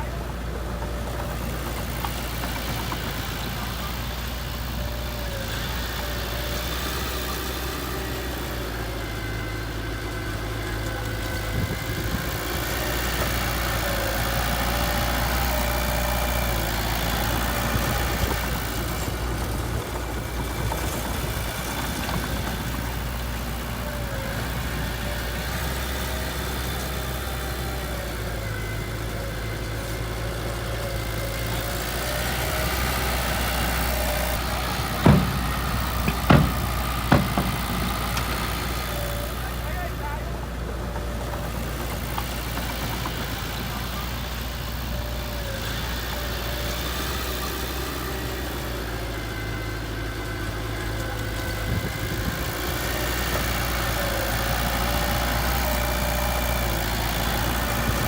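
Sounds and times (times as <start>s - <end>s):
diesel engine of heavy machine: 0.0s - 58.0s.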